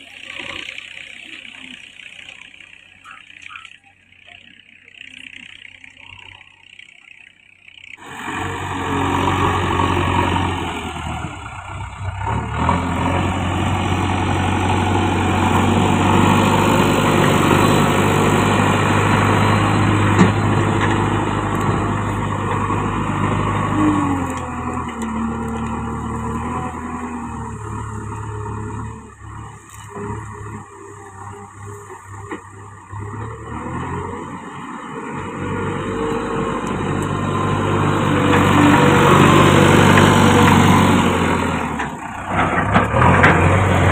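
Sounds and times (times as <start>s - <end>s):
diesel engine running heavily: 0.0s - 43.9s.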